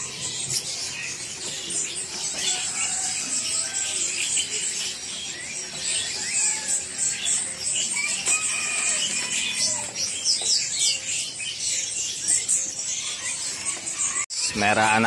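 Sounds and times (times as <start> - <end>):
caged birds chirping: 0.0 - 15.0.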